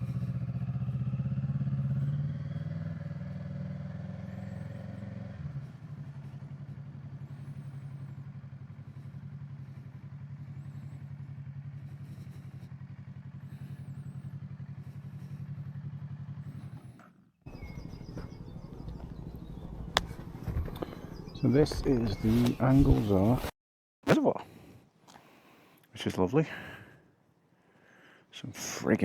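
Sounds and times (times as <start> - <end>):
motorcycle engine idling: 0.0 - 23.4.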